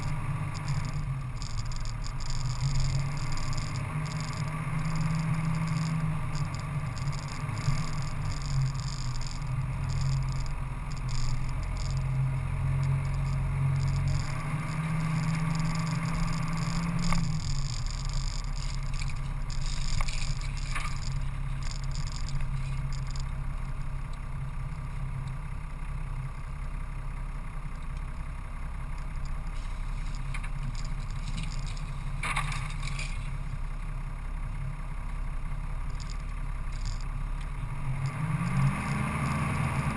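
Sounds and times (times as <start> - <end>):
road rumble: 0.0 - 39.9
vehicle engine running: 0.0 - 39.9.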